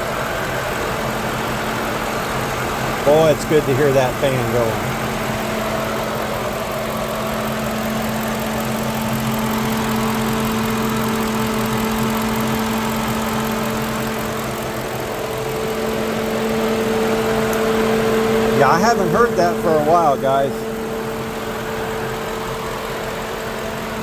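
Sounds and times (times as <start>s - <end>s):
car engine idling: 0.0s - 24.0s
electric cooling fan running: 0.0s - 24.0s.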